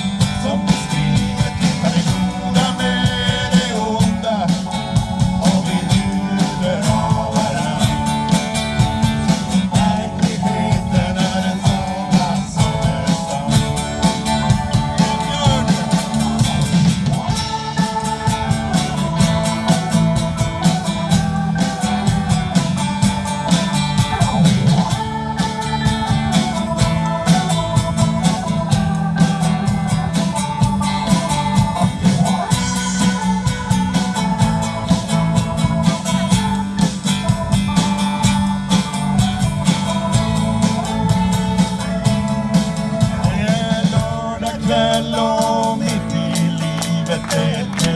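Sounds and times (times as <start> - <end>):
drum kit steady beat: 0.0 - 47.9
live band through speakers: 0.0 - 47.9.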